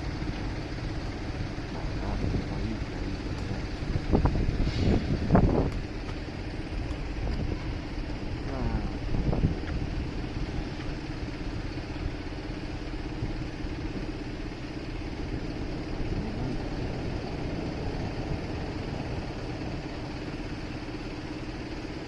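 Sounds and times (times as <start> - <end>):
motorcycle engine running: 0.0 - 22.0
street traffic noise: 0.0 - 22.0.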